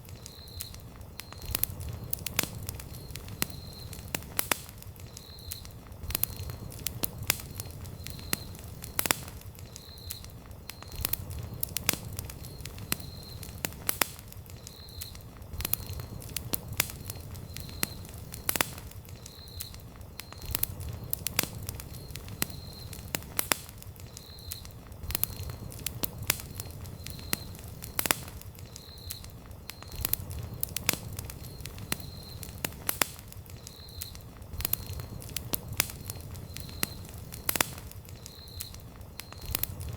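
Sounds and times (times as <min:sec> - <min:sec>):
campfire crackling and popping: 0:00.0 - 0:39.9
low rumble of fire: 0:00.0 - 0:39.9.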